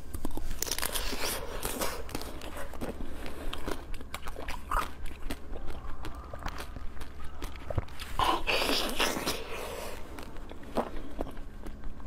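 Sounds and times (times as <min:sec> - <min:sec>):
biting and chewing dessert: 0:00.0 - 0:12.0.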